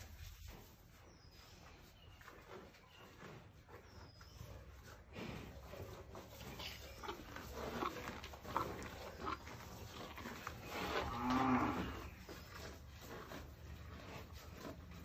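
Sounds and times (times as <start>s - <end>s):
cow breathing and sniffing: 0.0s - 15.0s.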